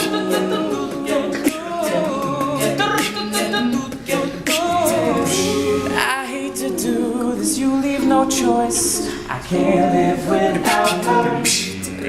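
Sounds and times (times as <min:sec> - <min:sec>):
beatboxing: 0:00.0 - 0:12.0
men singing a cappella in harmony: 0:00.0 - 0:12.0.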